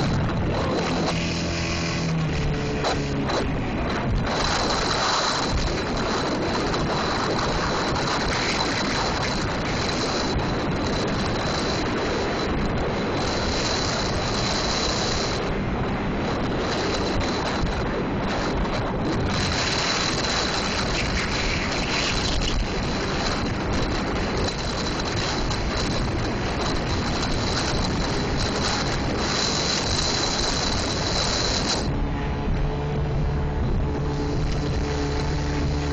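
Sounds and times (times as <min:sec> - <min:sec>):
outboard motor running: 0:00.0 - 0:35.9
water rushing along hull: 0:00.0 - 0:35.9
wind buffeting microphone: 0:00.0 - 0:35.9.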